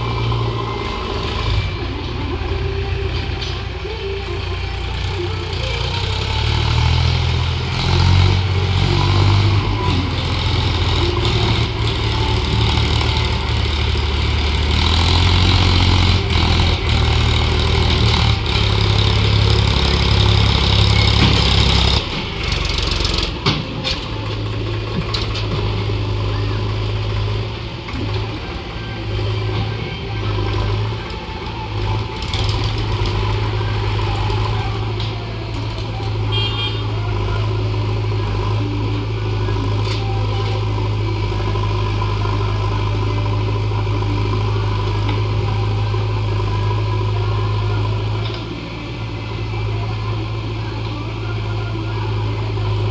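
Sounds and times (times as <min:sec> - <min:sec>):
heavy vehicle engine humming: 0:00.0 - 0:52.9.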